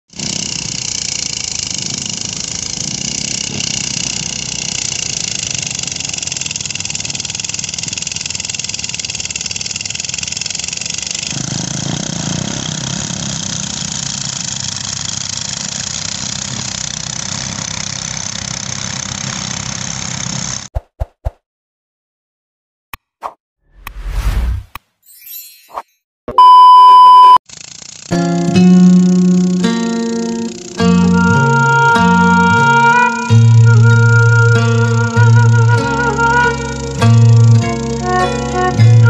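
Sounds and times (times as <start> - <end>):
threshing machine engine drone: 0.1 - 20.7, 27.5 - 39.0.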